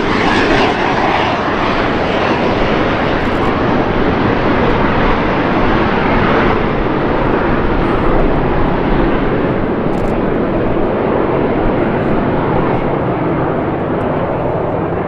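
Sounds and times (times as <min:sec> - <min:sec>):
aircraft engine: 0:00.0 - 0:15.0.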